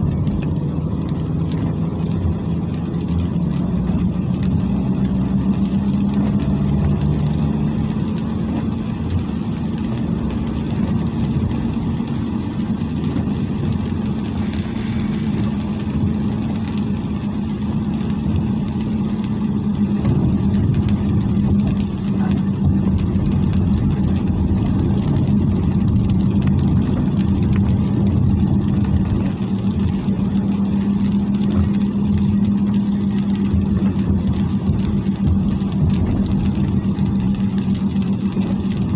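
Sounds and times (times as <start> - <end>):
car engine hum inside cabin: 0.0 - 38.9
tyres hissing on wet road: 0.0 - 38.9.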